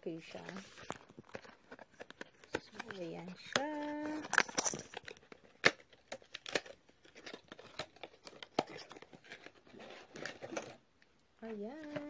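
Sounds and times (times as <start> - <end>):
packaging crinkling: 0.3 - 12.0.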